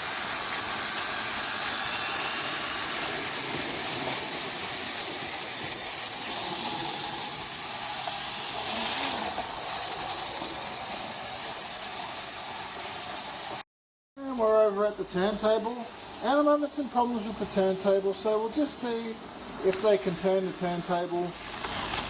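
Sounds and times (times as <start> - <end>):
toy train motor whirring: 0.0 - 13.6, 16.2 - 22.0.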